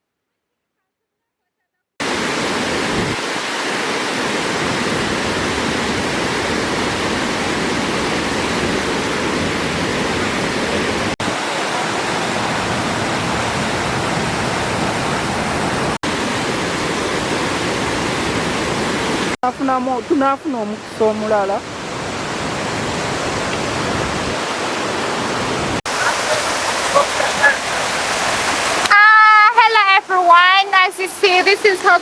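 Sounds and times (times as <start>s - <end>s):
waterfall rushing: 2.0s - 20.0s, 21.3s - 32.0s.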